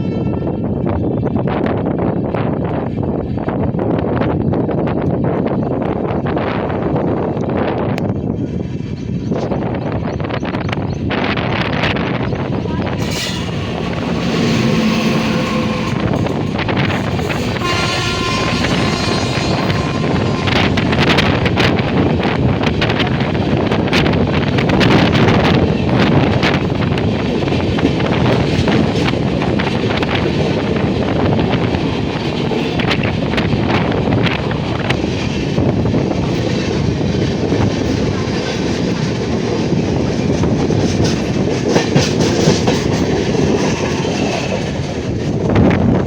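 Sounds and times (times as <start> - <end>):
train rumble: 0.0 - 46.0
train wheels clicking over rail joints: 7.4 - 46.0.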